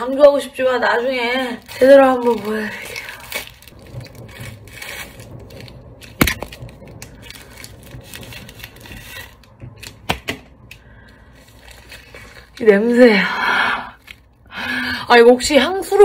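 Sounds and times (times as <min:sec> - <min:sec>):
plastic wrapper crinkling: 0:00.0 - 0:13.2, 0:13.9 - 0:14.7
sharp plastic crackle: 0:00.0 - 0:13.2, 0:13.9 - 0:14.8.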